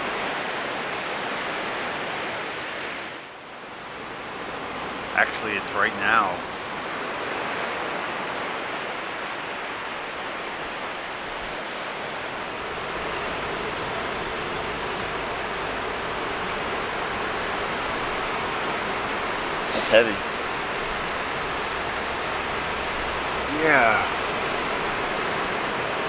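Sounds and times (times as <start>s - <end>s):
ocean surf washing on beach: 0.0s - 26.0s.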